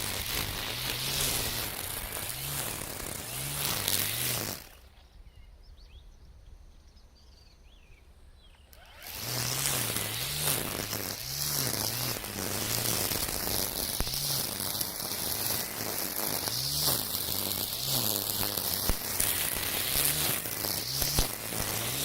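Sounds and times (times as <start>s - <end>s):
brush cutter motor hum: 0.0s - 4.9s, 8.6s - 22.0s
trimmer line whipping through stems: 0.0s - 4.9s, 8.7s - 22.0s.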